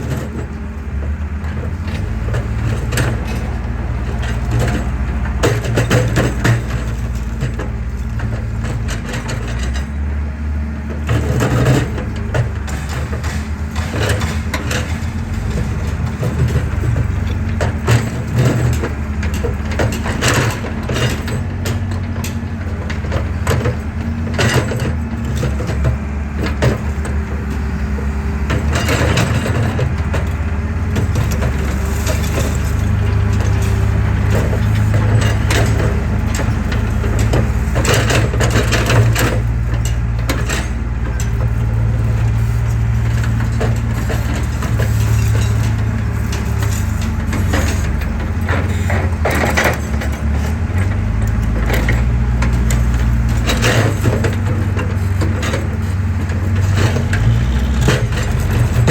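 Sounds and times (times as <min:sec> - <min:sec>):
excavator diesel engine: 0:00.0 - 0:58.9.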